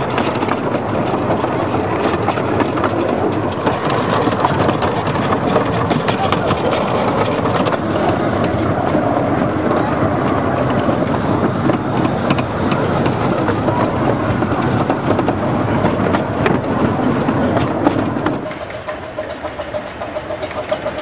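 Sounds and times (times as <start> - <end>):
clicks over rail joints: 0.0 - 21.0
train wheels rattling on rails: 0.0 - 21.0.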